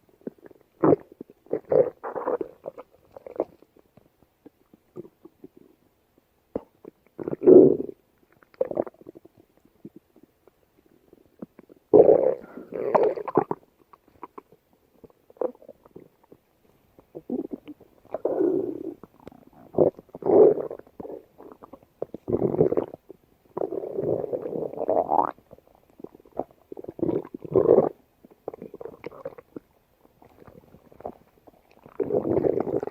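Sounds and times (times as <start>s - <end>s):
stomach growling and gurgling: 0.0s - 32.9s.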